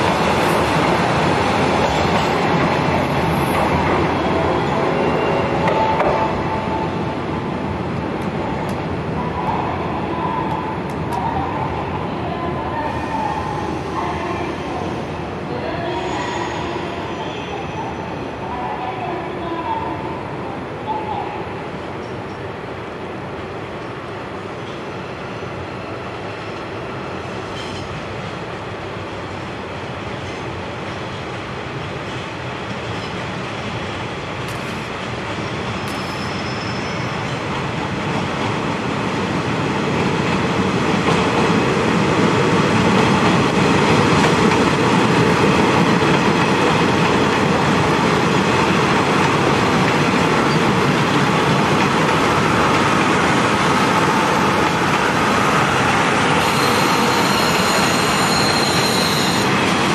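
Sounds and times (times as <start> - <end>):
diesel train passing: 0.0 - 11.2, 19.8 - 59.9.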